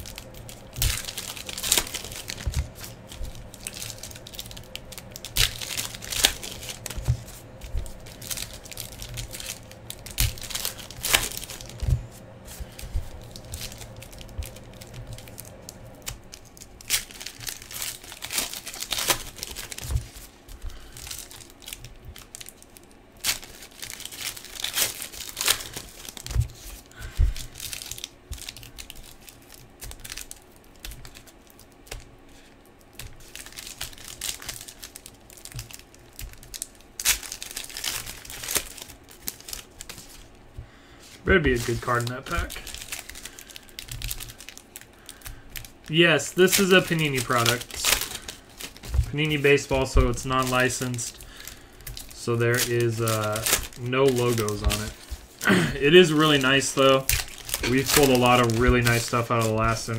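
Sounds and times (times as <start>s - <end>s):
foil wrappers tearing and crinkling: 0.0s - 59.9s.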